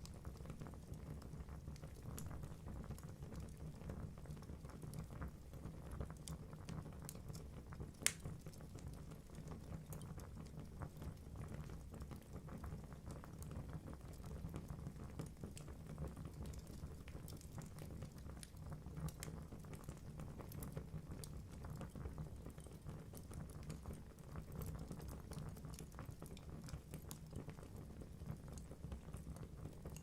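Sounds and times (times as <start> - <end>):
burning logs crackling and popping: 0.0 - 30.0.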